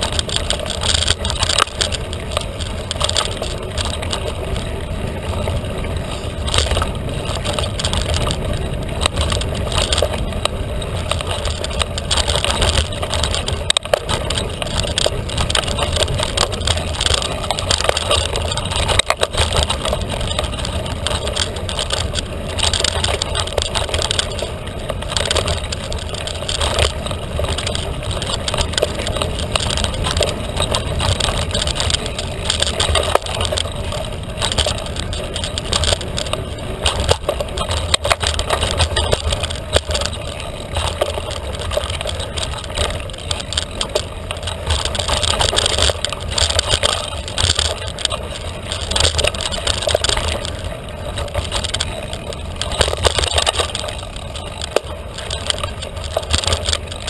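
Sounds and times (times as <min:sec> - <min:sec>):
bike clattering over bumps: 0:00.0 - 0:57.0
tyres rumbling on dirt: 0:00.0 - 0:57.0.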